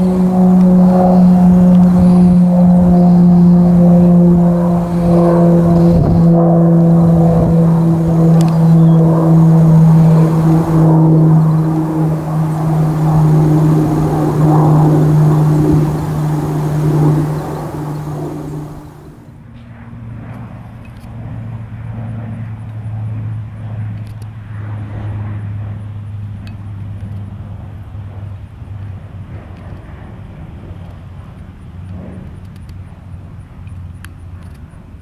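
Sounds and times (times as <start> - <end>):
low propeller drone: 0.0 - 35.0
propeller plane droning overhead: 0.0 - 35.0.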